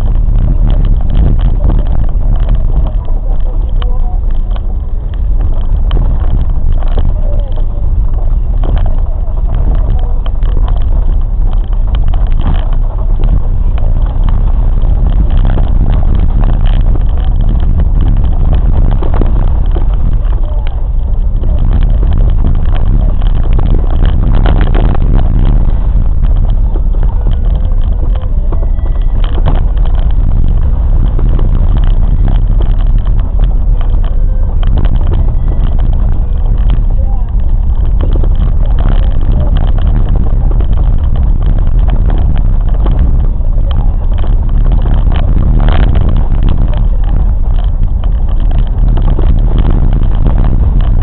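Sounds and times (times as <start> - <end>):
train rumbling and rattling on track: 0.0 - 51.0.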